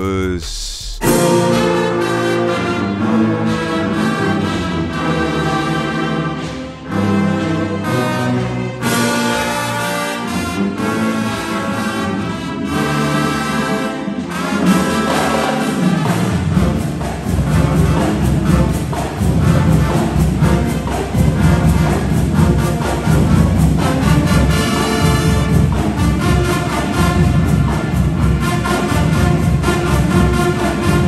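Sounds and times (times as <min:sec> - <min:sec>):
marching band playing: 0:01.0 - 0:31.0.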